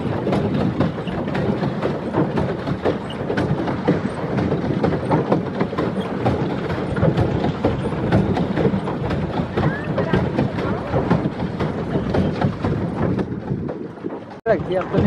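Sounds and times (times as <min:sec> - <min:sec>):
paddle boat pedal drive clattering: 0:00.0 - 0:15.0.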